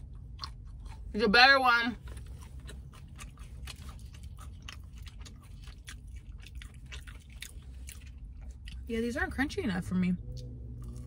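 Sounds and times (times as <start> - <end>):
chewing with small clicks: 0.0 - 1.1, 2.0 - 9.1, 10.3 - 11.0.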